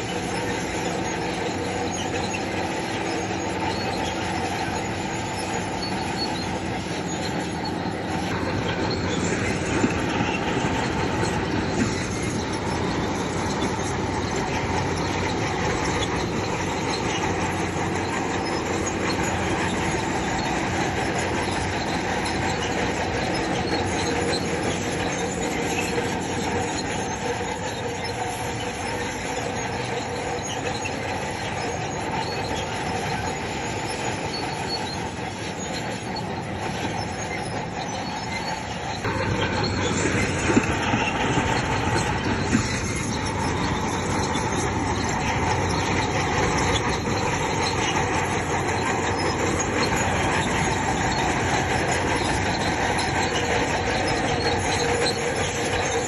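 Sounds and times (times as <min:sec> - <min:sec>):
bulldozer engine running: 0:00.0 - 0:56.0
steel tracks squealing and clattering: 0:00.0 - 0:56.0.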